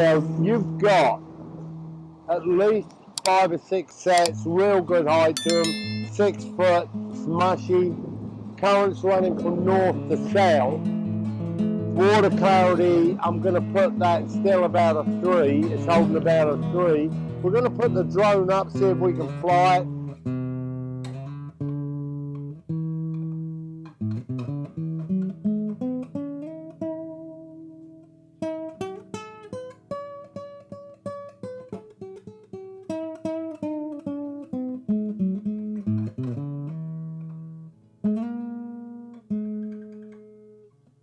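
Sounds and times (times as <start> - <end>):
solo guitar playing: 0.0 - 3.2, 5.2 - 40.8.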